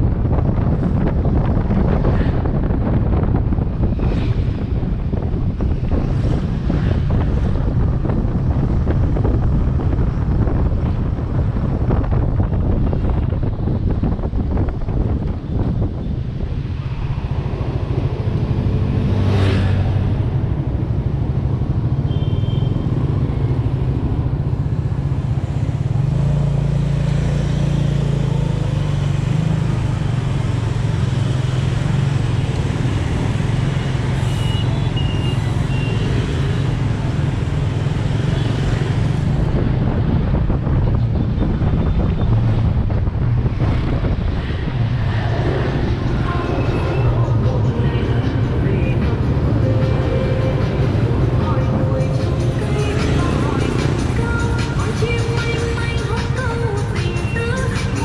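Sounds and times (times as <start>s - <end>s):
street noise: 0.0s - 58.0s.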